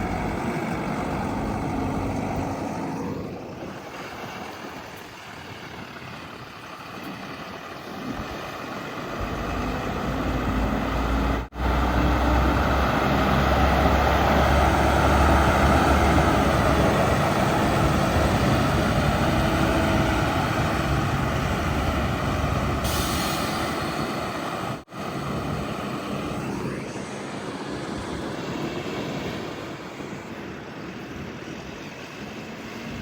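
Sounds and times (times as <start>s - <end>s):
heavy diesel engine rumbling: 0.0s - 33.0s.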